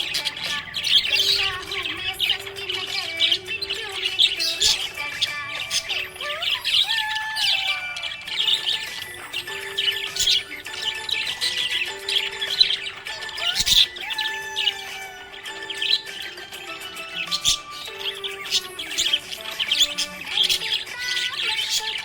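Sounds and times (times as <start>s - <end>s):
budgerigars chirping: 0.0s - 22.0s.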